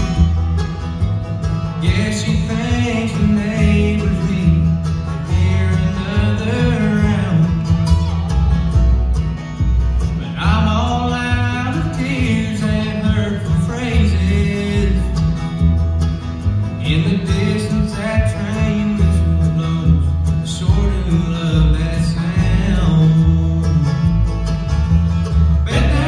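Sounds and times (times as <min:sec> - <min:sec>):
bluegrass band playing: 0:00.0 - 0:26.0.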